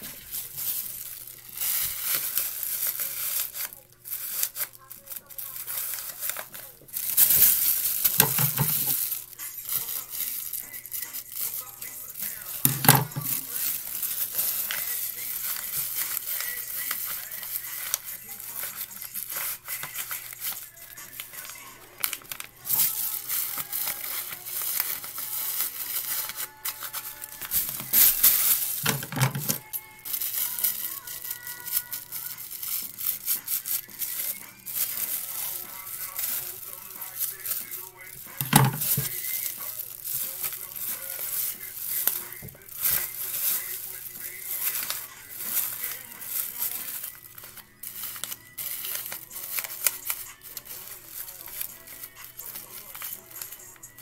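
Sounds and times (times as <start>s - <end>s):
paper crinkling and rustling: 0.0s - 54.0s.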